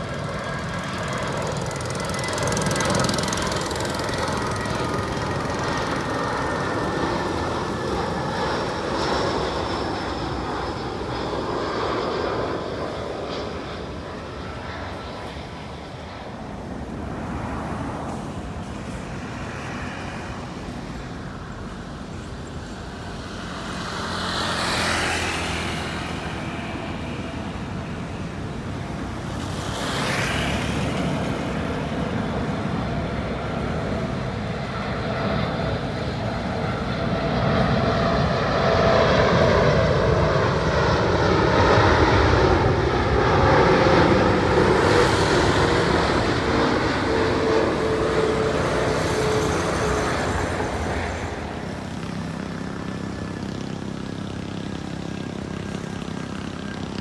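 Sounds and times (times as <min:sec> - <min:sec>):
jet engine whine: 0:00.0 - 0:57.0
jet engines roaring: 0:00.0 - 0:57.0.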